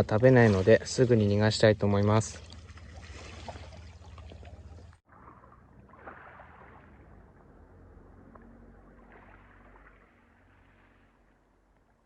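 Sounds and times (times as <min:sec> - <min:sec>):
sea water lapping: 0:00.0 - 0:11.7.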